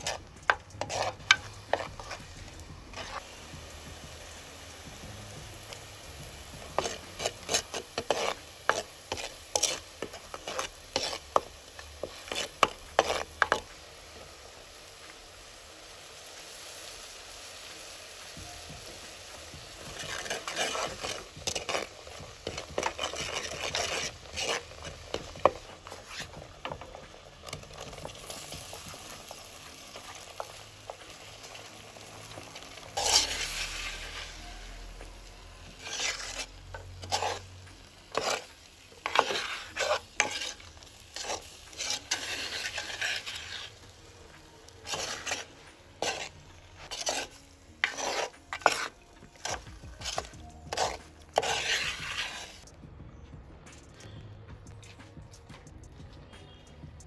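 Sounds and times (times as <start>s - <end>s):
loud sizzle of food added: 0.0s - 52.6s
spice sizzling in hot oil: 0.0s - 52.7s
spatula scraping and stirring: 0.0s - 52.8s.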